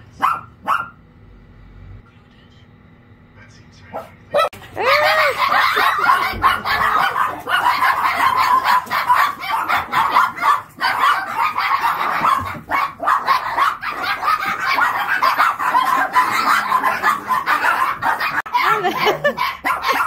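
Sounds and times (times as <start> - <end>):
small dogs barking and yipping: 0.0 - 1.0, 3.9 - 20.0.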